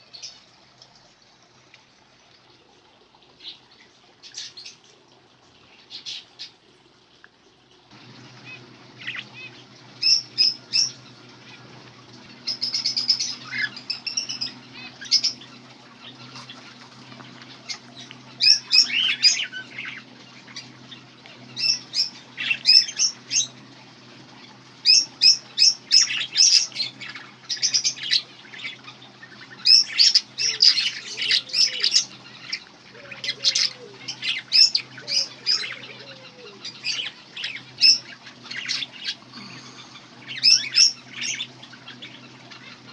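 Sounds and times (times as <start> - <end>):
steady low hum: 7.8 - 42.9
small birds chirping: 7.9 - 42.9.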